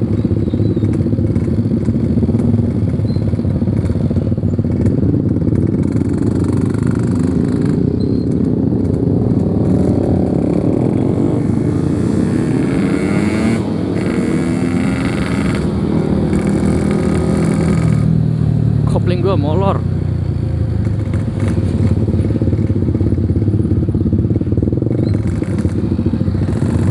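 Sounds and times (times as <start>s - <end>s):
two-stroke motorcycle engine running: 0.0s - 26.9s.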